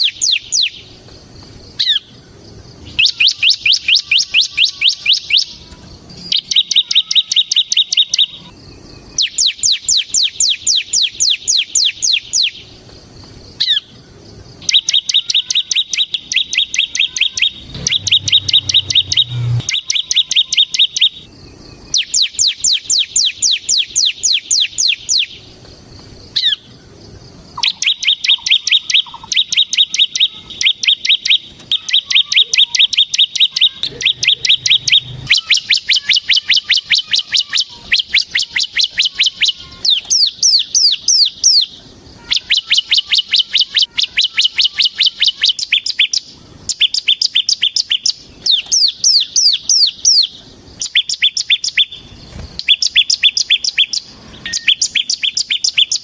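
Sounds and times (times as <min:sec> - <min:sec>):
bird singing rattling trill: 0:00.0 - 0:25.5, 0:26.2 - 0:56.0.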